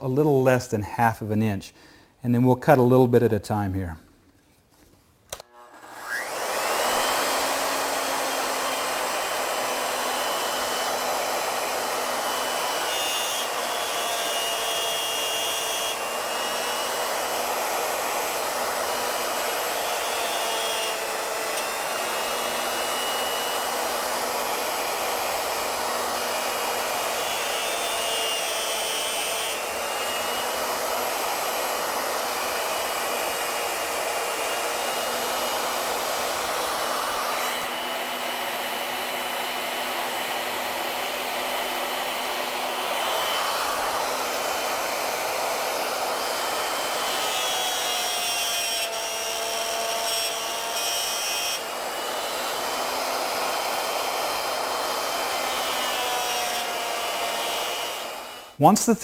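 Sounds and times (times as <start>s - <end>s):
router bit cutting wood: 5.3s - 59.0s
wood router whining: 5.3s - 59.0s.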